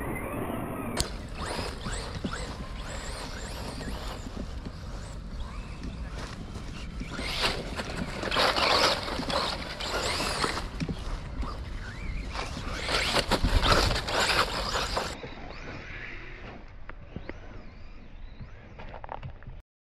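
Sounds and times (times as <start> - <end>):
rc car motor whine: 0.0 - 19.2.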